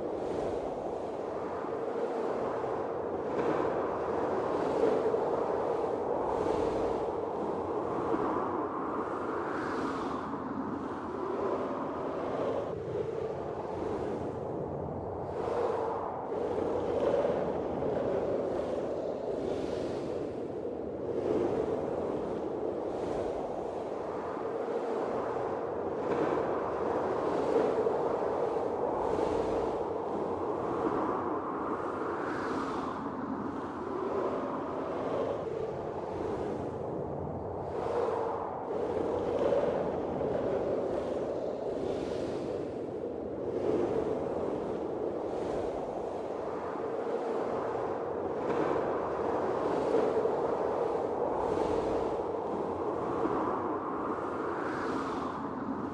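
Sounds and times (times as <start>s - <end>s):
blizzard wind blowing in gusts: 0.0s - 55.9s.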